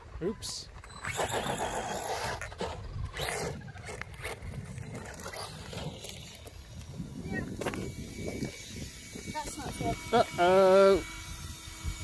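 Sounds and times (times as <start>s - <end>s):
toy car motor and tyres: 0.4s - 12.0s.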